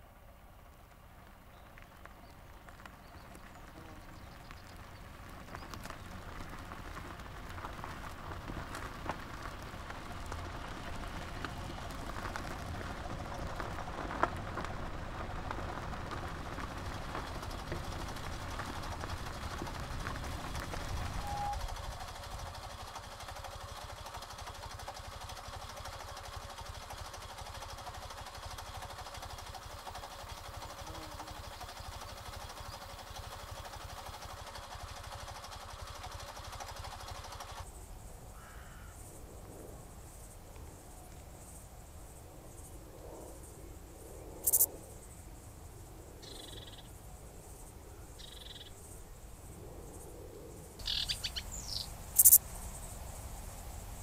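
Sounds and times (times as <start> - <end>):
small car engine running: 0.0 - 41.6, 42.5 - 54.0.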